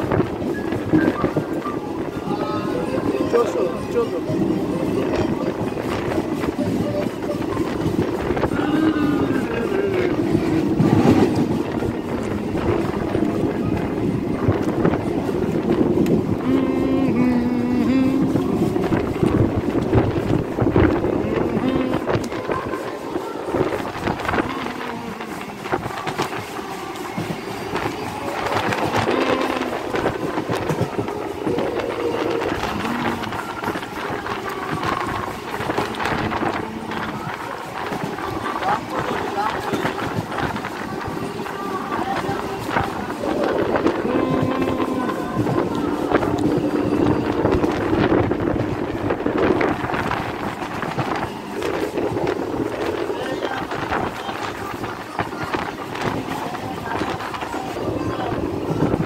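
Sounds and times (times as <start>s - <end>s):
train rumble and rattle: 0.0s - 59.0s
wheels clicking over rails: 0.0s - 59.0s
wind buffeting microphone: 0.0s - 59.0s.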